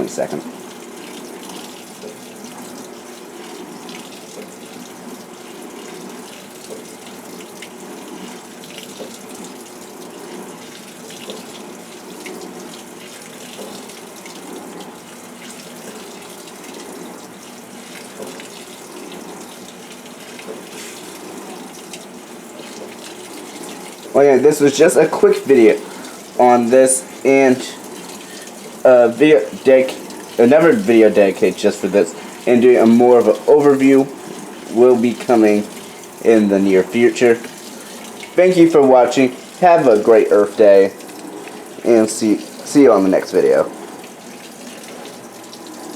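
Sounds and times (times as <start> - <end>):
water pouring into washing machine: 0.0 - 45.9.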